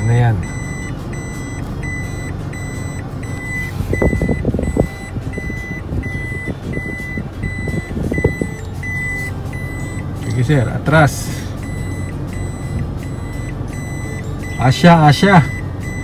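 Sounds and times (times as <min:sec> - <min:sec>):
car engine idling: 0:00.0 - 0:16.0
reverse warning beeper: 0:00.0 - 0:16.0.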